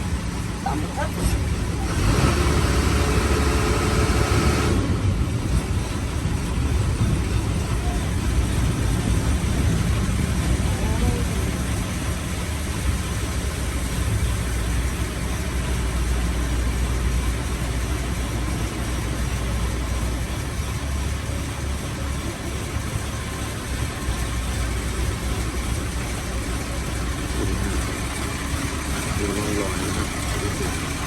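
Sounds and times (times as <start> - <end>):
boat engine running: 0.0 - 31.0
wind and water noise: 0.0 - 31.0.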